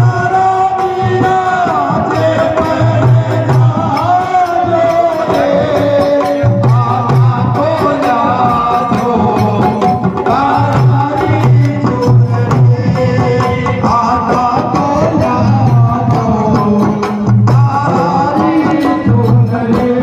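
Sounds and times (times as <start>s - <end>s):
folk singing: 0.0s - 20.0s
frame drums beaten: 0.0s - 20.0s.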